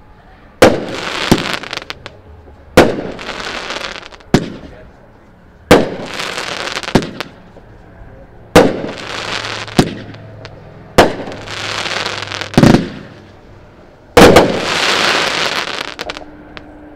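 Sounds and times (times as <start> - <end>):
fireworks bangs: 0.6 - 4.9, 5.7 - 7.6, 8.5 - 13.5, 14.1 - 16.7.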